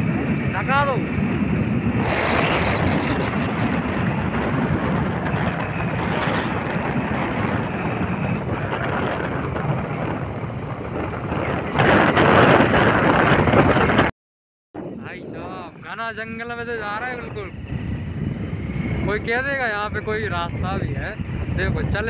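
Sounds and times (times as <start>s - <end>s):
motorcycle engine: 0.0s - 14.1s, 16.8s - 21.9s
wind rushing on microphone: 0.0s - 14.1s, 14.8s - 22.0s.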